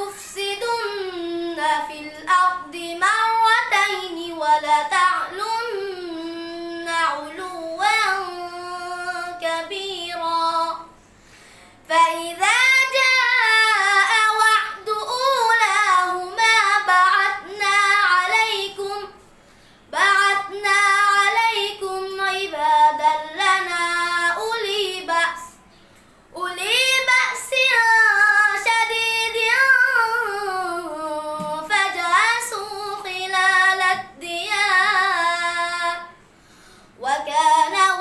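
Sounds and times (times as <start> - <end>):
boy reciting melodically: 0.0 - 11.0, 11.8 - 19.2, 19.9 - 25.6, 26.3 - 36.2, 37.0 - 38.0.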